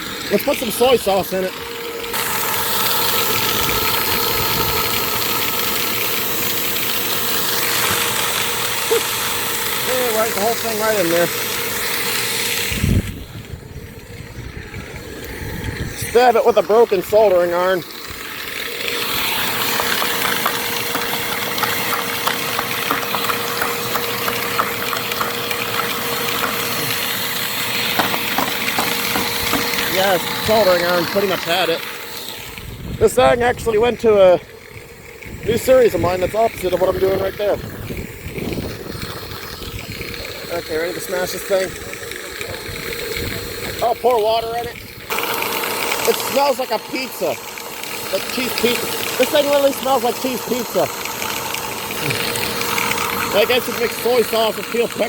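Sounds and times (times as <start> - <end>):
vacuum cleaner motor whirring: 0.0 - 55.0.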